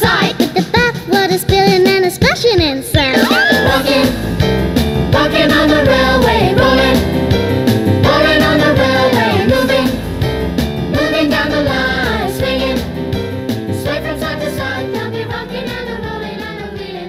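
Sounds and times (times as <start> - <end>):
children's song music: 0.0 - 17.0.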